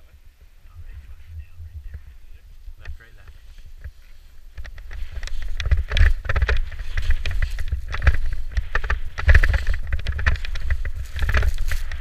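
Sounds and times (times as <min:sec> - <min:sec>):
wind rumble on microphone: 0:00.0 - 0:12.0
skis scraping through powder snow: 0:01.0 - 0:12.0.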